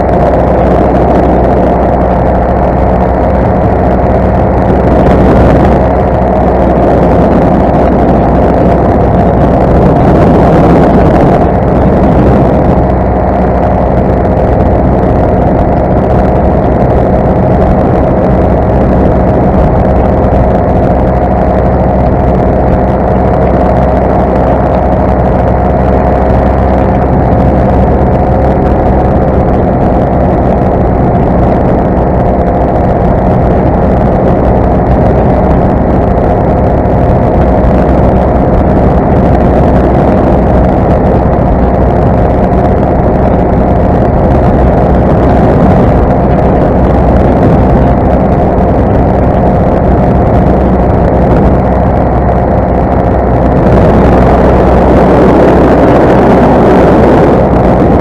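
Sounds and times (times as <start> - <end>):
paramotor engine droning: 0.0 - 58.0.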